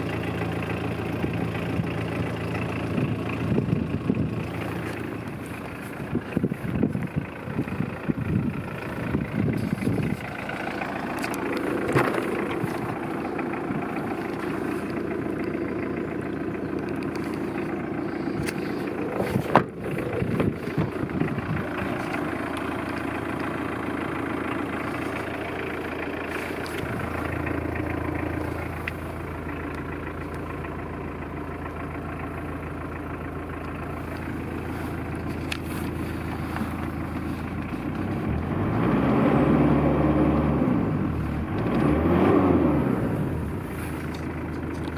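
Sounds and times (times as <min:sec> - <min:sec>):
pickup engine idling: 0:00.0 - 0:44.9.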